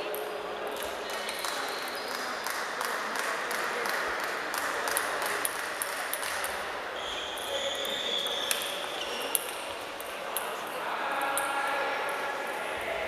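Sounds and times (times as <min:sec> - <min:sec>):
sports hall background noise: 0:00.0 - 0:13.0.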